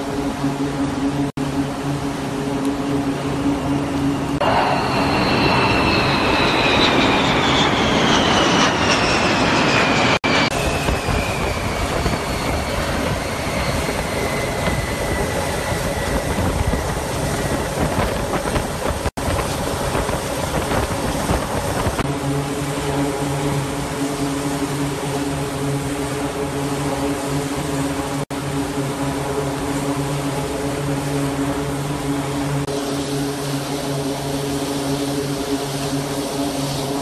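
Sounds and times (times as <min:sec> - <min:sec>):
jet engines roaring overhead: 0:00.0 - 0:37.0.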